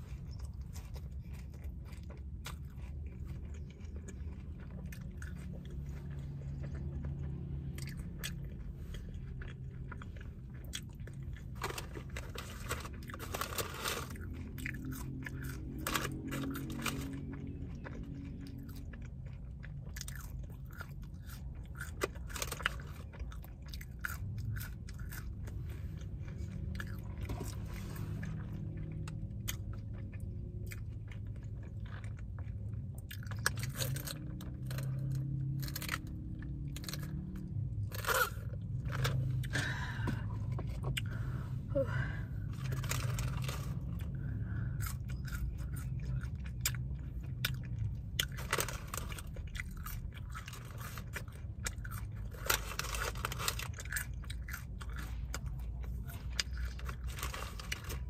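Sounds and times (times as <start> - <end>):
chewing and biting food: 0.0 - 58.0
steady low hum: 0.0 - 58.0.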